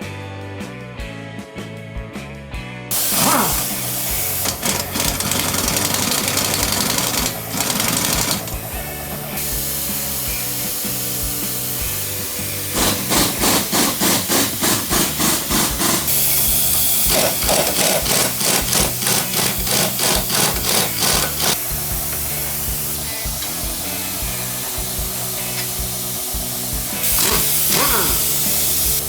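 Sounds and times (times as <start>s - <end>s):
background music: 0.0s - 29.0s
hand tool rasping strokes: 2.9s - 8.7s, 9.4s - 29.0s.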